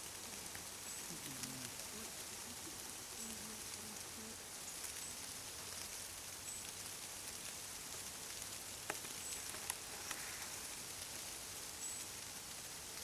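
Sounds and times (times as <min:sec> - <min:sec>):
faint ticks: 0:00.0 - 0:11.2
butterflies flapping wings: 0:00.0 - 0:13.0.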